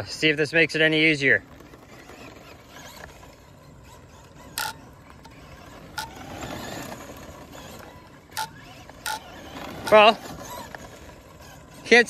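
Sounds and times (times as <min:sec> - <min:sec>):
electric rc car whirring: 0:00.0 - 0:12.0
tyres scrabbling on dirt: 0:00.0 - 0:12.0.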